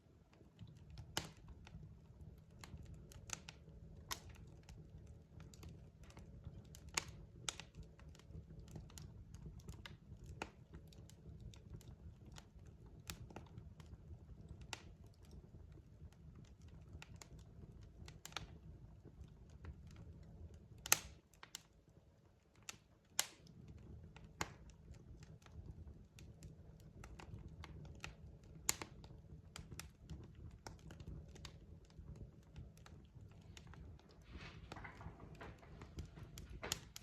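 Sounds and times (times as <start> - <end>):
low rumble of burning logs: 0.0 - 37.0
wood fire crackling and popping: 0.0 - 37.0.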